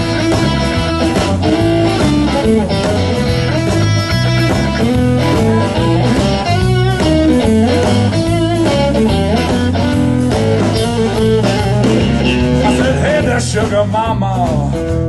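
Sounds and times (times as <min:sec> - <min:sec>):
electric guitar solo: 0:00.0 - 0:12.9
blues band playing: 0:00.0 - 0:15.0.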